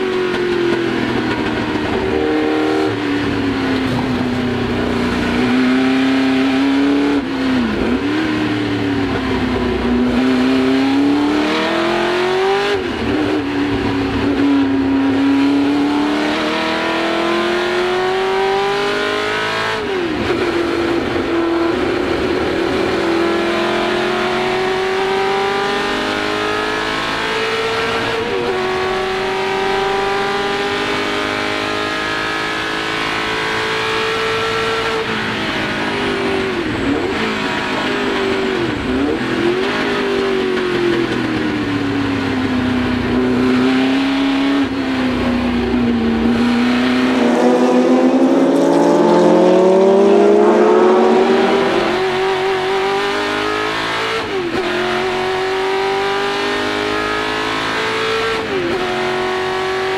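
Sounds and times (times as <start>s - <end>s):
racing engine at full throttle: 0.0s - 59.9s.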